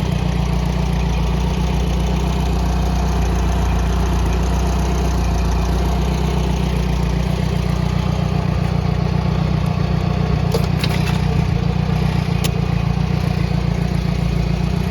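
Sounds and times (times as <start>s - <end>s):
tractor engine running: 0.0s - 14.9s.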